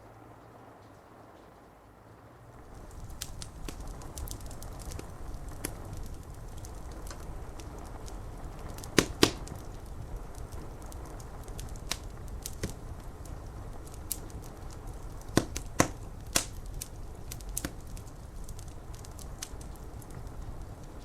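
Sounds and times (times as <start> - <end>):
fire crackling and popping: 0.0 - 21.0
rain: 0.0 - 21.0.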